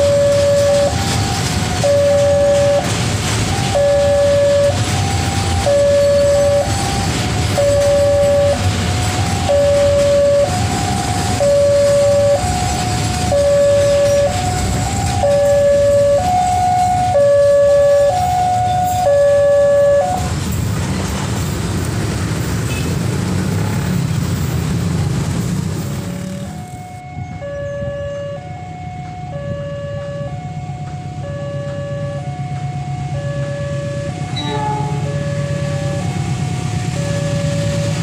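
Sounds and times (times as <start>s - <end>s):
level crossing alarm two-note tone: 0.0s - 2.9s, 3.5s - 20.3s, 26.6s - 38.0s
freight train rumbling on rails: 0.0s - 38.0s.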